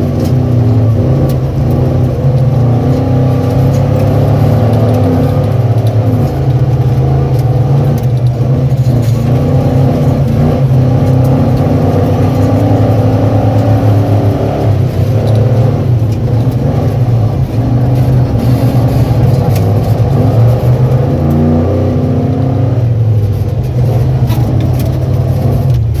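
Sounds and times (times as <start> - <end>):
engine accelerating hard: 0.0 - 26.0.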